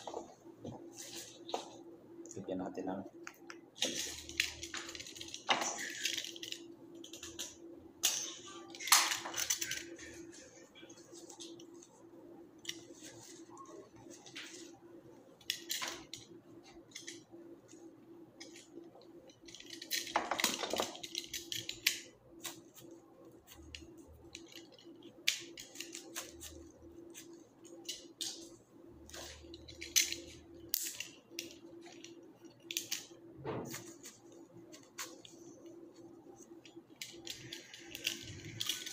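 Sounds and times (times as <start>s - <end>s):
steady low hum: 0.0s - 20.1s, 20.7s - 38.9s.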